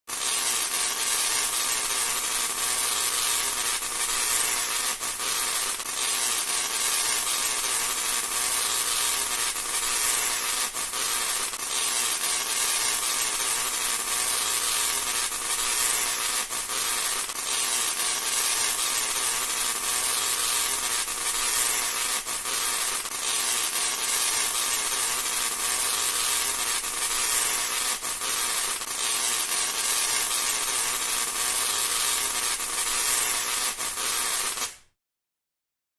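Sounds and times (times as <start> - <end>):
sharp electrical snaps: 0.1 - 34.8.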